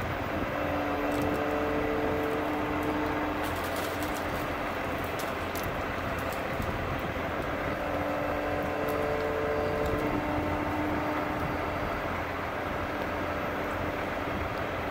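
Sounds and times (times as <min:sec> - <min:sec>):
crane engine and hydraulics humming: 0:00.0 - 0:14.9.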